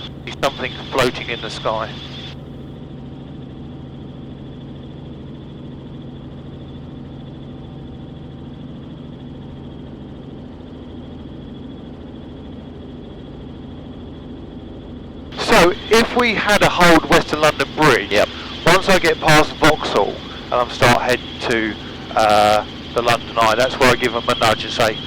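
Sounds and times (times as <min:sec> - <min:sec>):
faint constant whine: 0:00.0 - 0:25.0
helicopter drone from cabin: 0:00.0 - 0:25.0.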